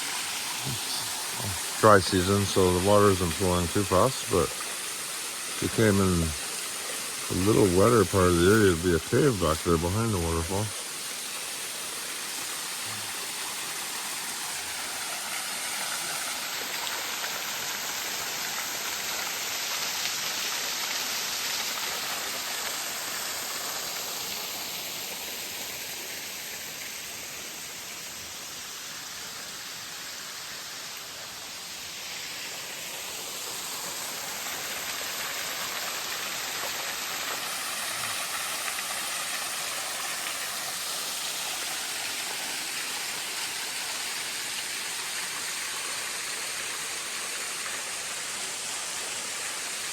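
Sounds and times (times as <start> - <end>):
waterfall falling into pool: 0.0 - 49.9.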